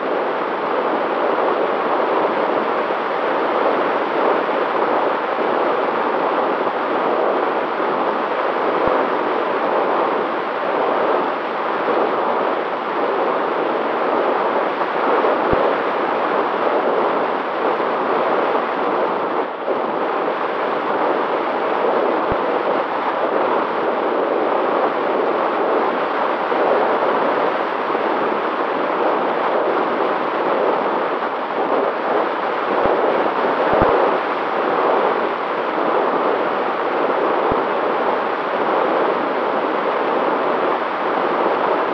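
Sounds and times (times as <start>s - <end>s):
rushing wind noise: 0.0s - 41.9s.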